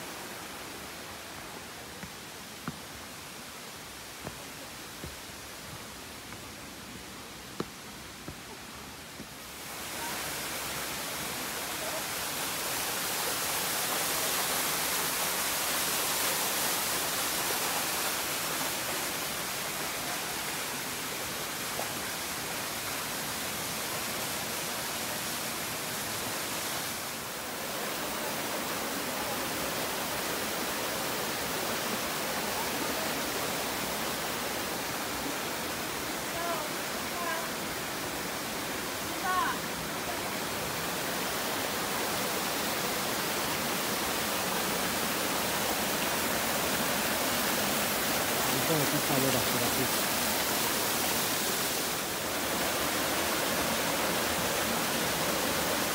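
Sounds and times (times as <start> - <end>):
rushing stream water: 0.0 - 55.9.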